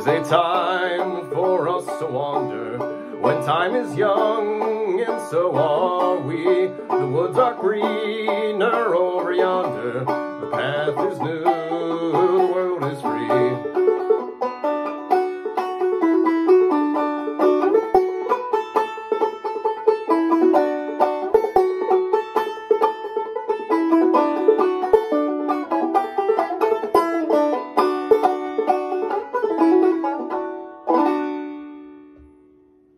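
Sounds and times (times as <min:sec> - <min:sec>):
banjo plucking and strumming: 0:00.0 - 0:32.6.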